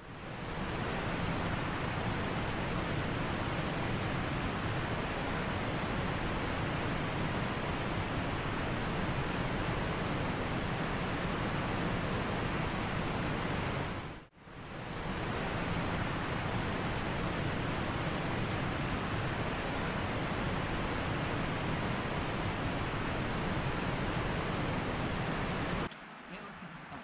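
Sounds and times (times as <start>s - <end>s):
steady rushing noise: 0.0s - 25.9s.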